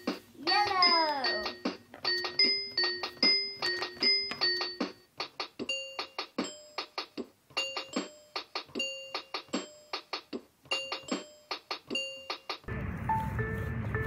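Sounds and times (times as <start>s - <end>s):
light bouncy tune: 0.0s - 14.0s.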